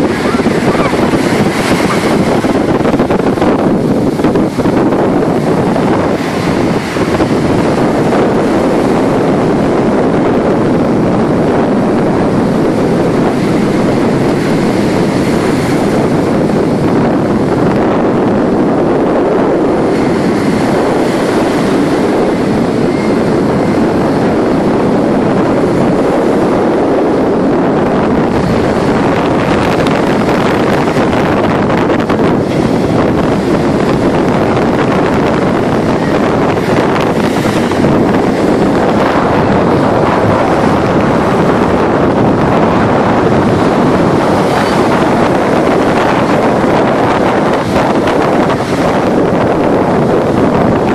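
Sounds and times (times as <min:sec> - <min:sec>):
breaking surf: 0:00.0 - 0:50.9
wind buffeting microphone: 0:00.0 - 0:50.9.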